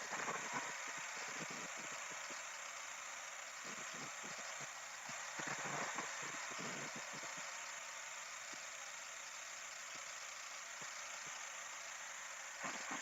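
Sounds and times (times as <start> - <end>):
car engine idling roughly: 0.0 - 13.0.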